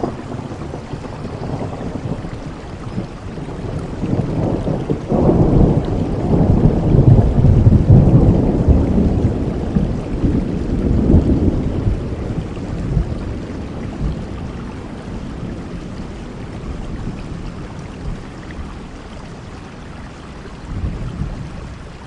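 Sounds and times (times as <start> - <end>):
rolling thunder: 0.0 - 18.8
heavy rain: 0.0 - 22.0.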